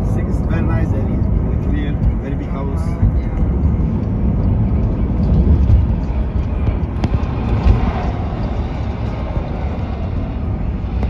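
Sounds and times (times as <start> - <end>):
vehicle rumbling in motion: 0.0 - 11.0.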